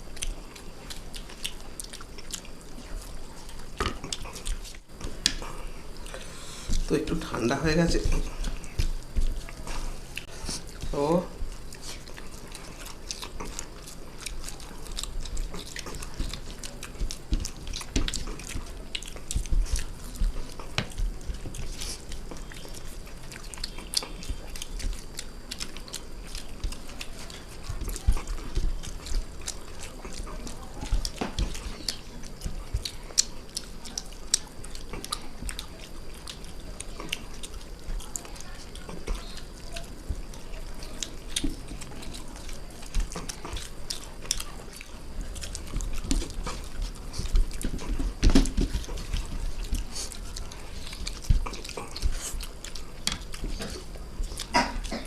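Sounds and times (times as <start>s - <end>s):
person chewing noodles: 0.0s - 55.0s.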